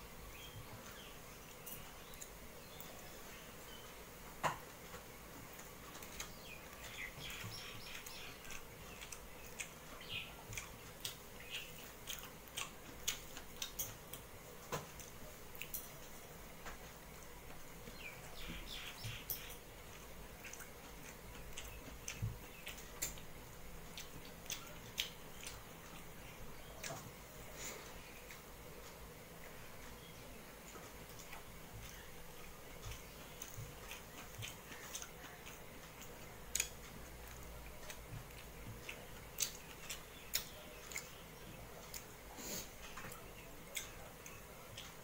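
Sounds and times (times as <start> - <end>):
chewing food: 0.0 - 45.0.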